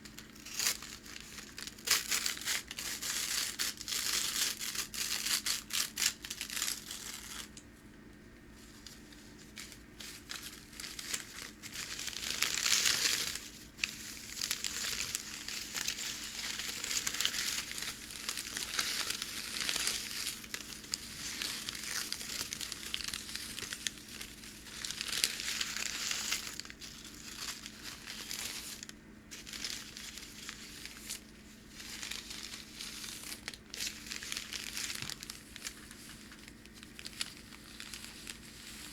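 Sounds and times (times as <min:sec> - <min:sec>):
packing paper crinkling: 0:00.0 - 0:07.6, 0:08.6 - 0:38.9.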